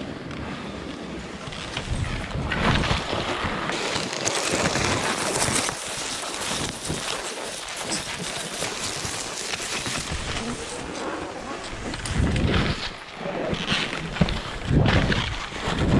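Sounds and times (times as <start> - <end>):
skis scraping through snow: 0.0 - 15.9
wind over microphone: 0.0 - 15.9.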